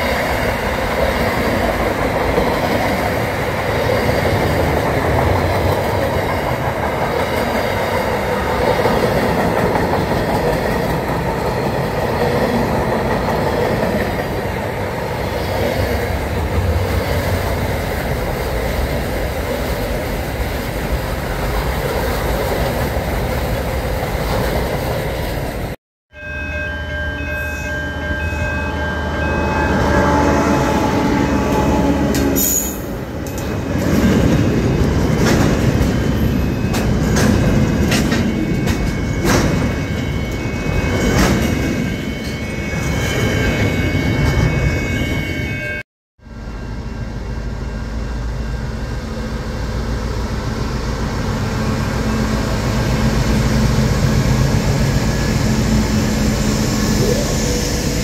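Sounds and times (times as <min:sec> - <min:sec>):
diesel locomotives rumbling: 0:00.0 - 0:25.8, 0:26.4 - 0:58.0.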